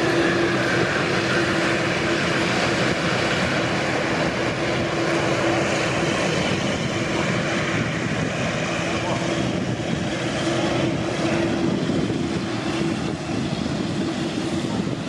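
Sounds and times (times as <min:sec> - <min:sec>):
airliner engines running: 0:00.0 - 0:15.0.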